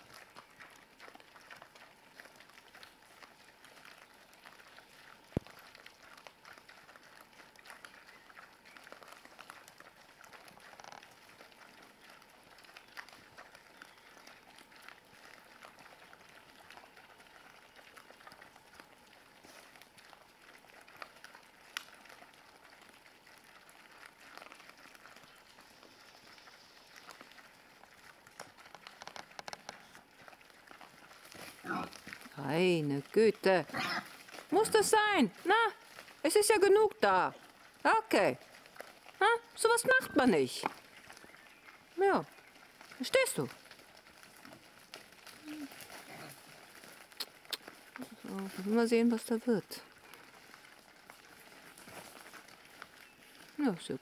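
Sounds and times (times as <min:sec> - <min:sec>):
boar chewing and snuffling: 0:00.0 - 0:54.0.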